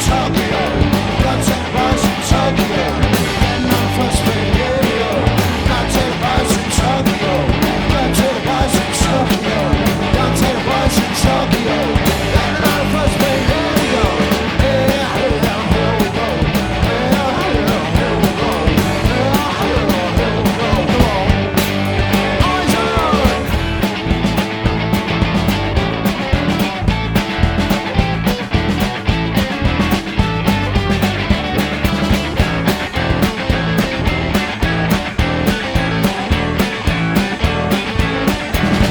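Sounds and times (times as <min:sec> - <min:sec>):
punk rock band playing live: 0:00.0 - 0:38.9
steady drum beat: 0:00.0 - 0:38.9.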